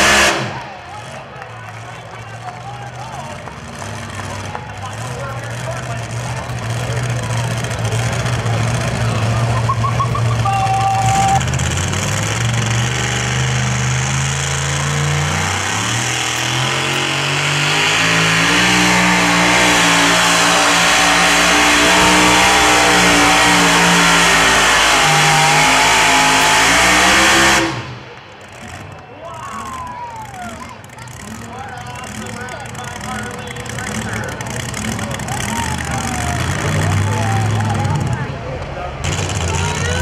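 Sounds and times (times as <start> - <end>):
truck engine revving hard: 0.0 - 40.0.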